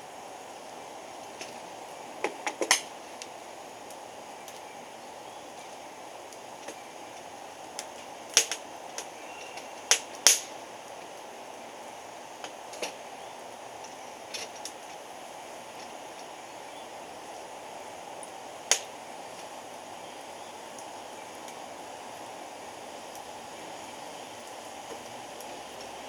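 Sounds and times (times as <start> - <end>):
fire crackles and pops: 0.0 - 26.0
wood fire hissing: 0.0 - 26.0.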